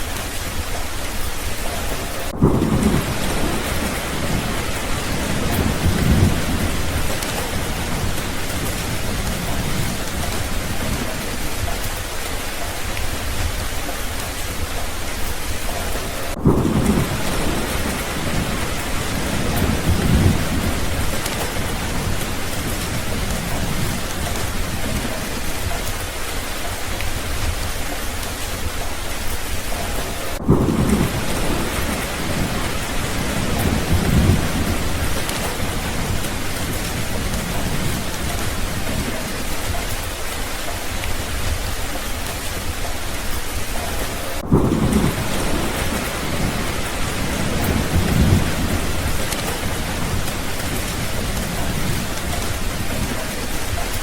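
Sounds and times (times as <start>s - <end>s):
heavy rain: 0.0s - 54.0s
low rolling thunder: 0.0s - 54.0s.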